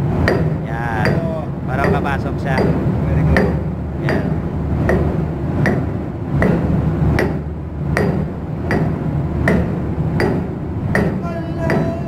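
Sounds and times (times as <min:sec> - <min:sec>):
steady low hum: 0:00.0 - 0:12.0
hammer striking through lead pad: 0:00.2 - 0:12.0.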